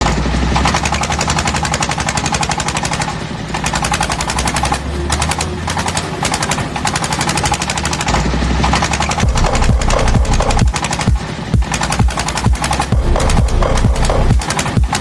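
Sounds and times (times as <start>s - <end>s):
tractor engine clattering: 0.0s - 15.0s.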